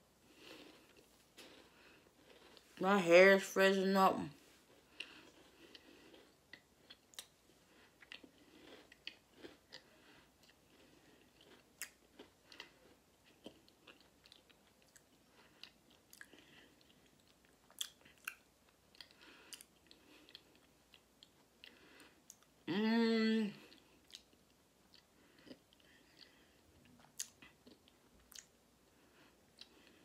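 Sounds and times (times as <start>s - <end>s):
person chewing crunchy candy: 0.3s - 2.8s, 4.6s - 22.6s, 23.6s - 30.0s.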